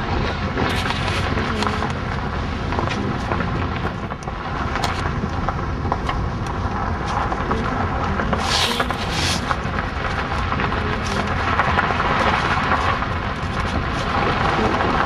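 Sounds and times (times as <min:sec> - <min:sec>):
car driving rumble: 0:00.0 - 0:15.0
wind buffeting microphone: 0:00.0 - 0:15.0.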